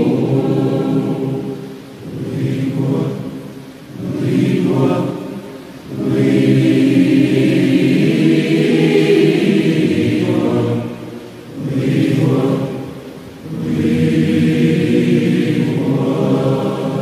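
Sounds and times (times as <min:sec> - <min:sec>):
massed choir singing: 0:00.0 - 0:17.0.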